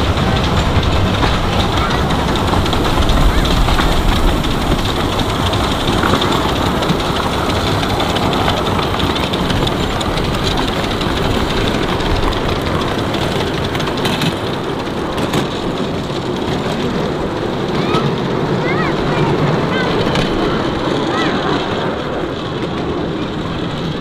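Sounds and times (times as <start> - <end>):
carriage wheels running over track: 0.0 - 24.0
miniature train locomotive working: 0.0 - 24.0.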